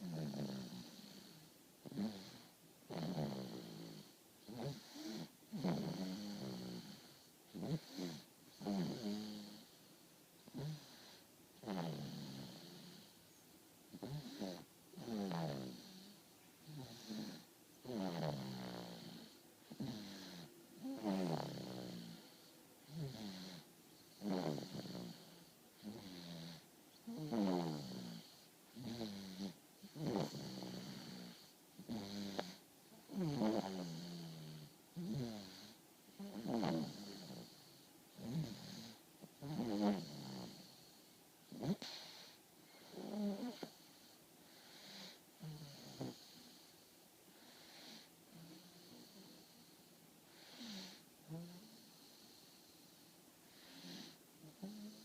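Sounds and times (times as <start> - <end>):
man snoring: 0.0 - 9.8, 10.5 - 13.1, 13.9 - 37.6, 38.2 - 40.9, 41.5 - 43.9, 44.5 - 46.6, 47.4 - 49.7, 50.3 - 55.0.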